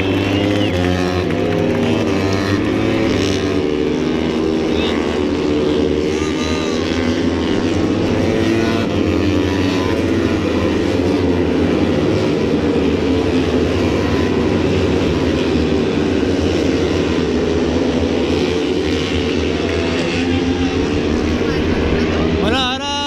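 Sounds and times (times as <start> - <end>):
motorcycle engines droning: 0.0 - 23.0.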